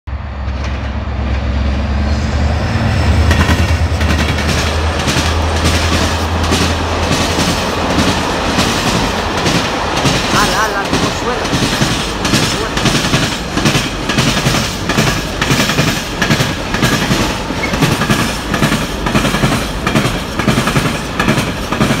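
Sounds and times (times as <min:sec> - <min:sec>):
locomotive engine droning: 0:00.1 - 0:21.4.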